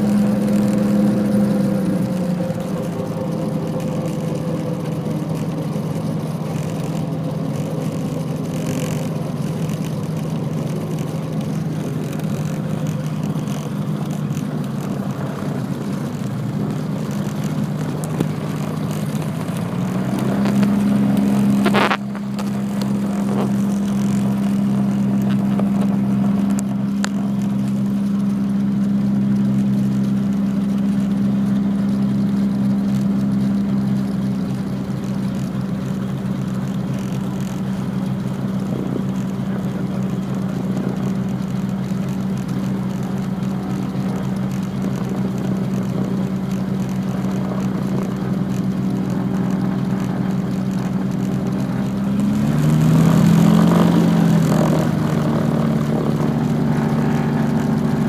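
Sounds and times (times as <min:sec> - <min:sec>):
twin piston engines droning: 0:00.0 - 0:58.0.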